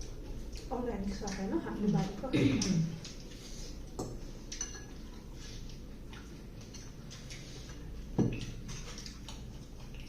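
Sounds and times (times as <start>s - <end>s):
mouth chewing clicks and smacks: 0.0s - 10.0s.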